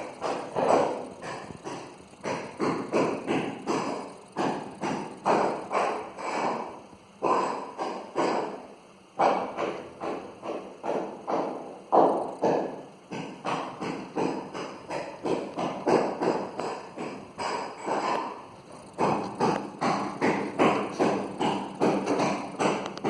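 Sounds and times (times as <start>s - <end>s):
knocks on hard surface: 0.0s - 6.6s, 9.2s - 18.3s, 19.0s - 23.0s.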